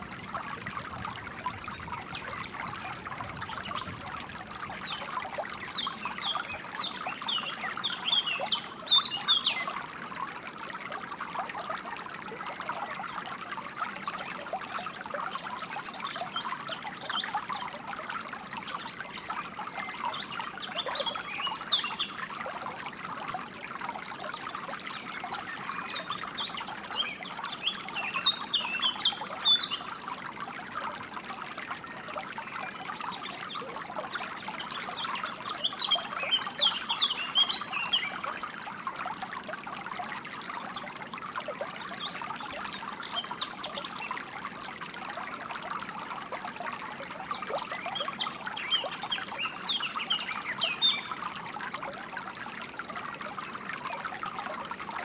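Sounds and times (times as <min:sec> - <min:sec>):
stream trickling and burbling: 0:00.0 - 0:55.0.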